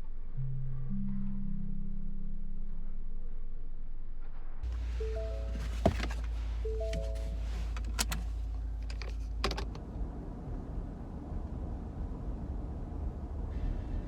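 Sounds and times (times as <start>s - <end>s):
truck engine low rumble: 0.0s - 14.0s.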